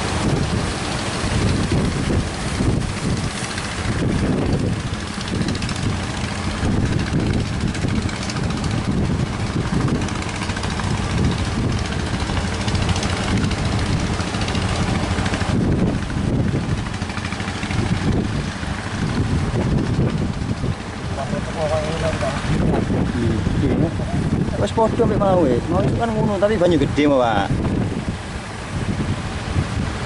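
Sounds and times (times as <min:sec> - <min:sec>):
boat engine running: 0:00.0 - 0:30.0
sea noise: 0:00.0 - 0:30.0
wind: 0:00.0 - 0:30.0.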